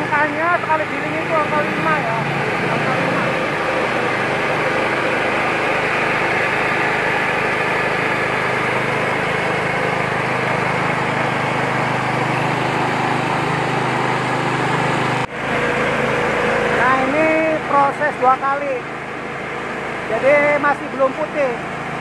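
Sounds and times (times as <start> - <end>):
rice huller running: 0.0 - 22.0.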